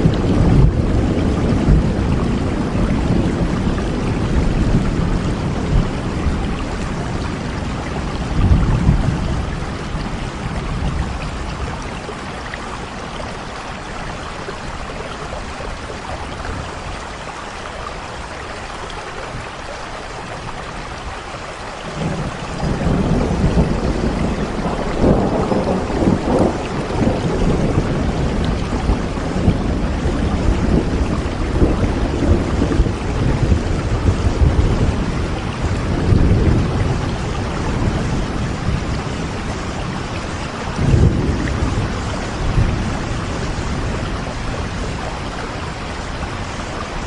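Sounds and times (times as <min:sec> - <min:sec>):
thunder rumbling: 0:00.0 - 0:18.1, 0:21.8 - 0:47.0
steady rain falling: 0:00.0 - 0:47.0.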